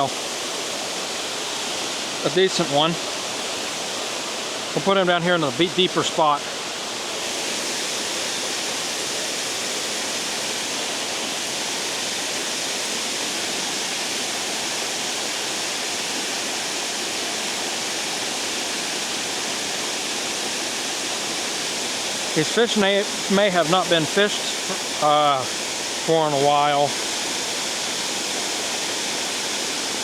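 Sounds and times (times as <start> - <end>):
water rushing over spillway: 0.0 - 30.0.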